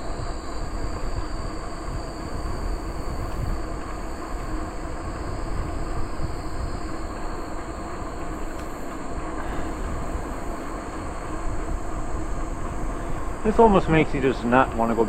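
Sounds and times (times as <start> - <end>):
bicycle tyres rolling on trail: 0.0 - 15.0
wind buffeting microphone: 0.0 - 15.0.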